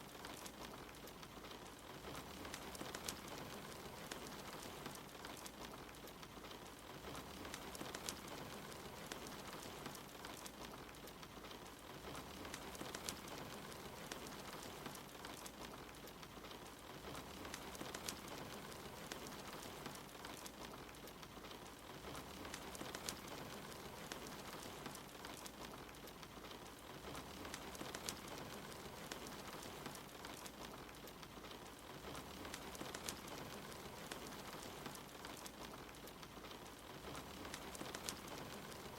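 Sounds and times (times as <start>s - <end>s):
steady rain: 0.0s - 38.9s
wood fire crackling and popping: 0.0s - 38.9s.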